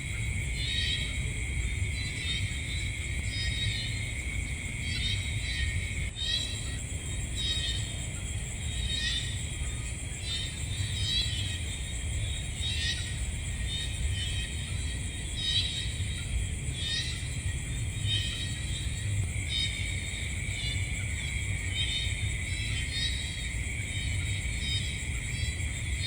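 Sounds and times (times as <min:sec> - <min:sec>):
insects chirping: 0:00.0 - 0:26.0
insects trilling: 0:00.0 - 0:26.0.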